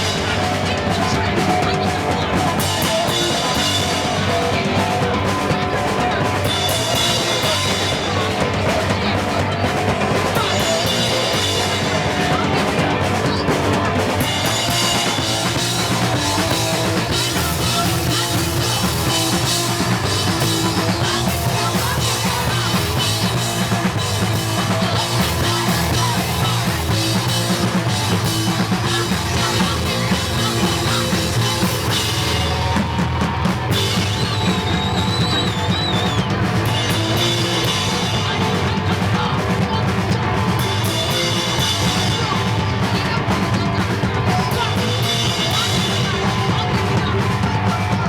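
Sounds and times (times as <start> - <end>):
drum kit: 0.0 - 48.0
punk rock band playing live: 0.0 - 48.0.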